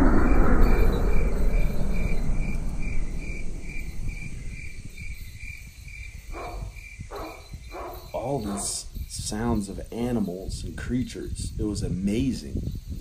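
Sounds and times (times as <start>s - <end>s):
aircraft flyby rumble: 0.0s - 12.8s
crickets chirping: 0.0s - 13.0s.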